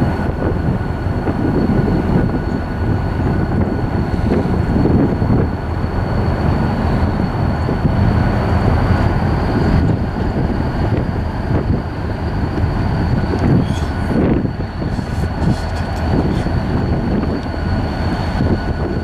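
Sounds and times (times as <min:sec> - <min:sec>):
high whine: 0:00.0 - 0:19.0
train rumbling: 0:00.0 - 0:19.0.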